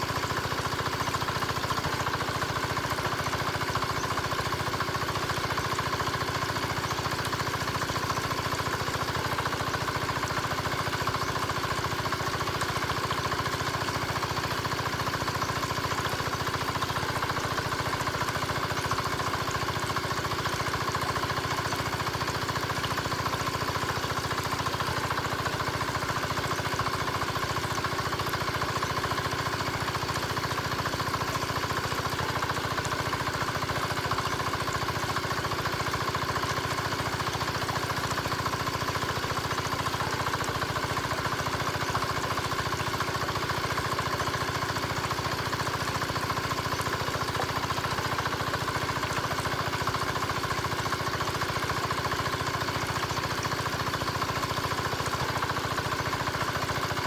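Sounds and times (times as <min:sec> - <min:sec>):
small water pump engine idling: 0:00.0 - 0:57.0.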